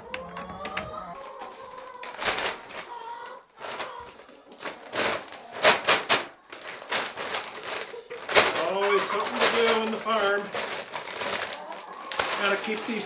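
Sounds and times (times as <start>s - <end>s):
paper sack rustling and crinkling: 1.2s - 13.0s.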